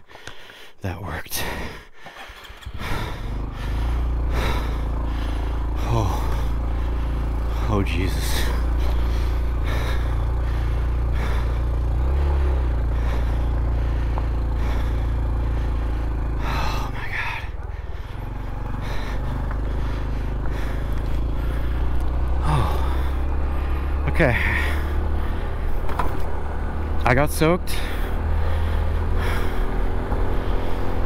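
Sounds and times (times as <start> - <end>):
small motorcycle engine running: 2.0 - 31.0.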